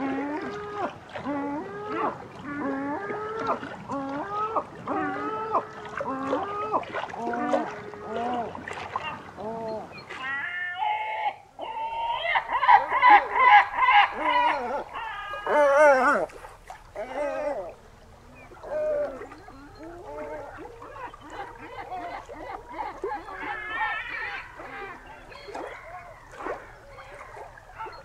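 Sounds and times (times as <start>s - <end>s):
gull calling: 0.0s - 28.0s.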